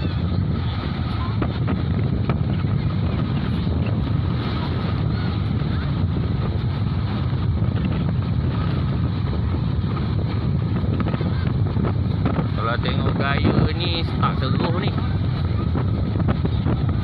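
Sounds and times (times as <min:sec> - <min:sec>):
surf on beach: 0:00.0 - 0:17.0
wind buffeting microphone: 0:00.0 - 0:17.0.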